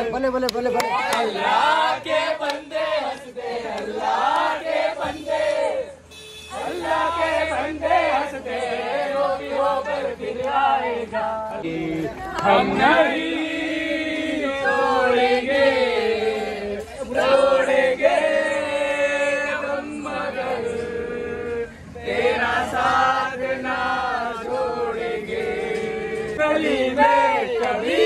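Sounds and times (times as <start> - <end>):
group singing in chorus: 0.0 - 28.0.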